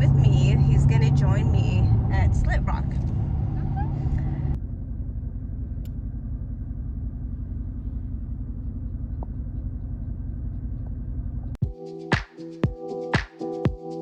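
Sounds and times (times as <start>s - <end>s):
car engine and road noise: 0.0s - 11.6s.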